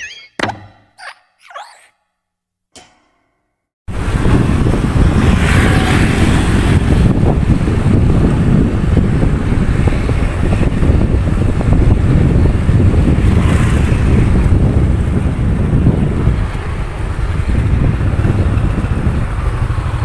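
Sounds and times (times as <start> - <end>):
wind buffeting on microphone: 3.9 - 20.0
motorcycle engine rumble: 4.0 - 20.0.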